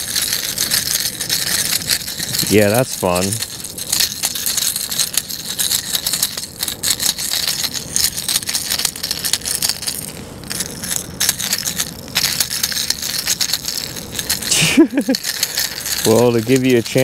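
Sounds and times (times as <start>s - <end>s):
fishing lure rattling: 0.0s - 17.0s.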